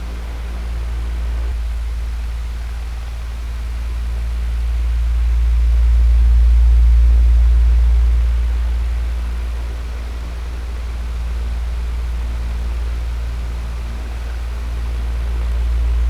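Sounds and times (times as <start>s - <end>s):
electric fan motor hum: 0.0s - 16.0s.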